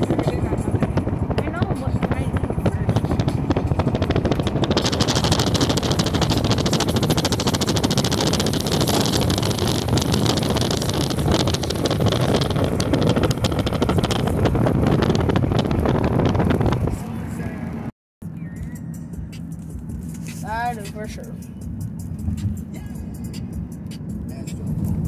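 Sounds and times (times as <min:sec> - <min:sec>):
moving car rumble: 0:00.0 - 0:25.0.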